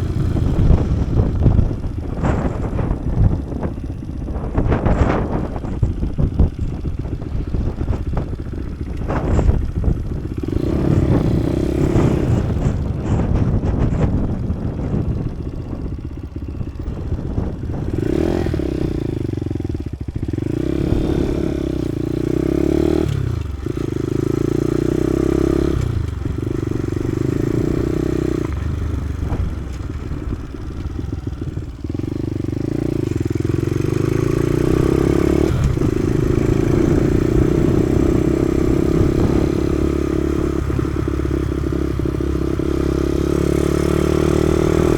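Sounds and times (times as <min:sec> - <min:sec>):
small motorcycle engine shifting gears: 0:00.0 - 0:44.9.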